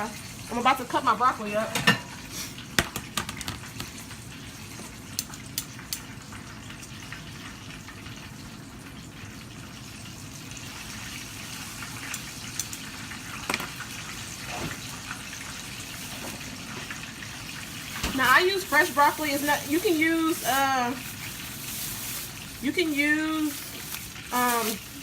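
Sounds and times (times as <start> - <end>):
chicken frying in oil: 0.0 - 25.0.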